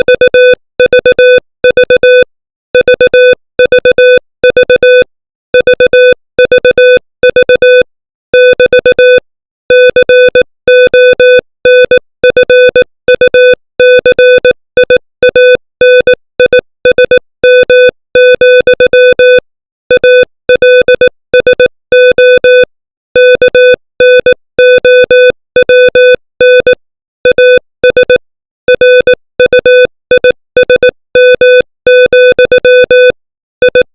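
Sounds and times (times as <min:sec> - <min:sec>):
morse code tone: 0:00.0 - 0:33.9.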